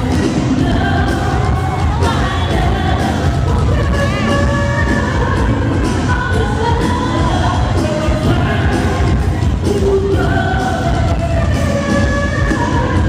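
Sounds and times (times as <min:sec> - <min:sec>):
crowd noise: 0:00.0 - 0:13.0
pop music with singing: 0:00.0 - 0:13.0.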